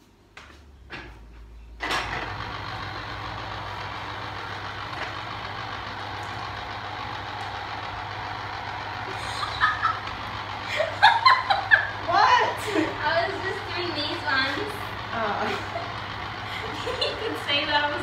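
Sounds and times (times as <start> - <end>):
electric juicer humming: 1.8 - 18.0.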